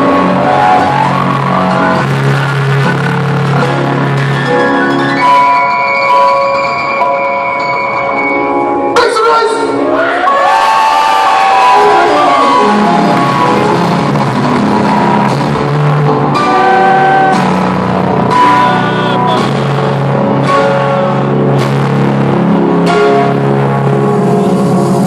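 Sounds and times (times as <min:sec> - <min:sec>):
electronic dance music: 0:00.0 - 0:09.8, 0:11.2 - 0:25.0.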